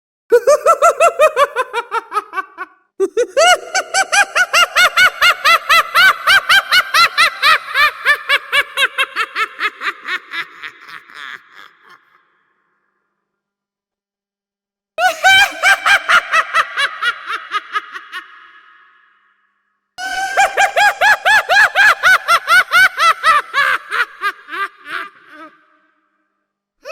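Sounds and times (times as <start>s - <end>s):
high-pitched cackling laugh: 0.3s - 12.4s, 15.0s - 19.0s, 20.0s - 25.9s.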